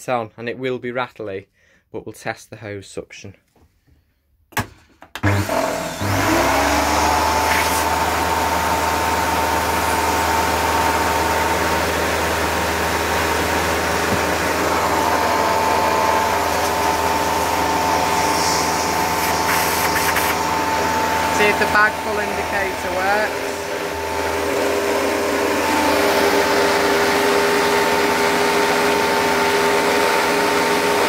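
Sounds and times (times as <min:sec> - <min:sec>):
vacuum cleaner running: 0:05.2 - 0:31.0.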